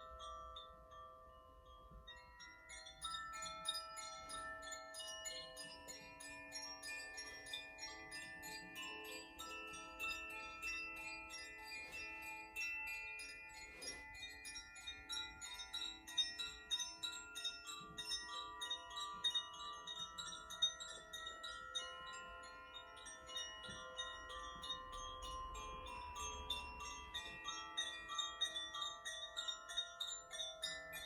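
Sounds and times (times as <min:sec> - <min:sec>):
chimes tinkling: 0:00.0 - 0:31.0.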